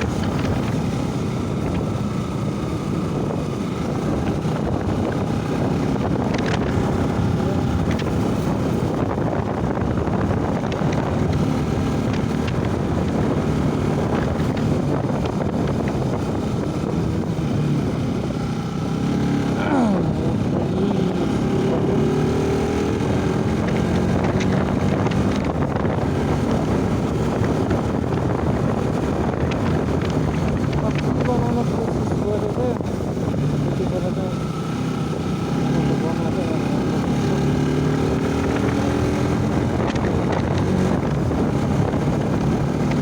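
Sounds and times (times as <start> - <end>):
motorcycle engine running: 0.0 - 43.0
wind noise on microphone: 0.0 - 43.0.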